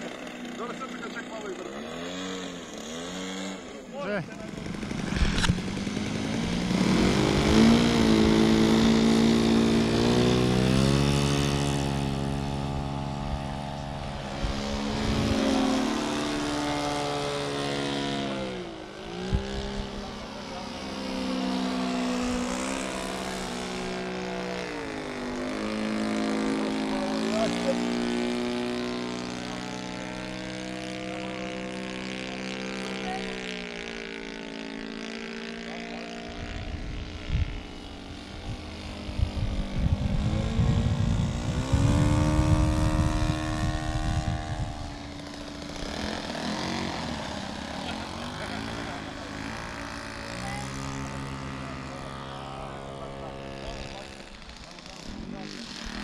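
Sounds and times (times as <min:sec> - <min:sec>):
model airplane engine revving: 0:00.0 - 0:56.0.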